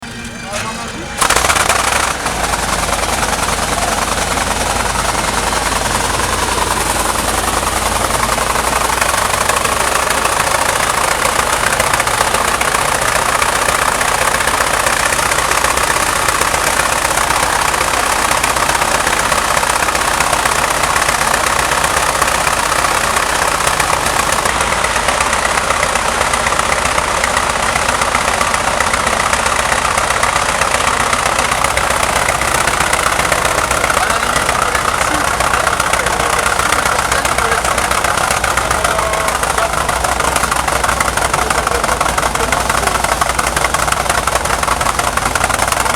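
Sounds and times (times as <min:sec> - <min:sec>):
tank engine running loudly: 0:00.0 - 0:45.9.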